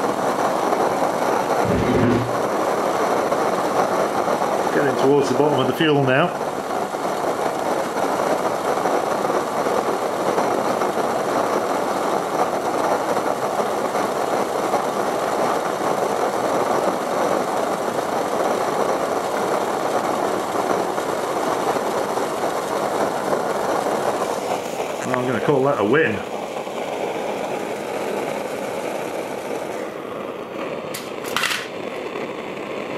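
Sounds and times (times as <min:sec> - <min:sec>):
stove burner roaring: 0:00.0 - 0:32.9.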